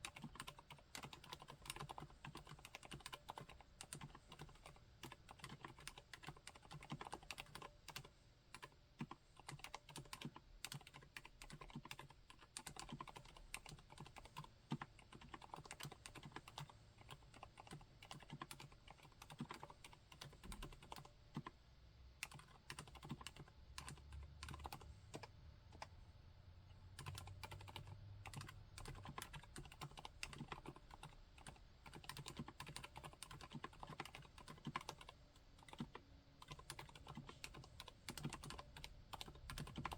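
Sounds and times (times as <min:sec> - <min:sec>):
quiet mechanical keyboard typing: 0:00.0 - 0:26.0, 0:26.6 - 0:39.9.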